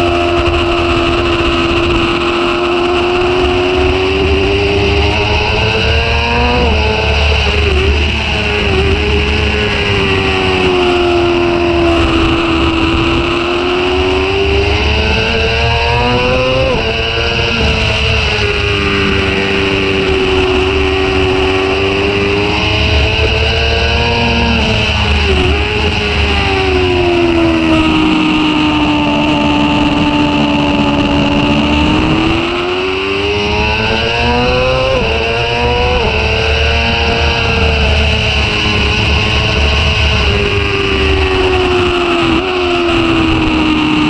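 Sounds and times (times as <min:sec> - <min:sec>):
motorcycle engine revving: 0:00.0 - 0:44.0
wind rushing over microphone: 0:00.0 - 0:44.0.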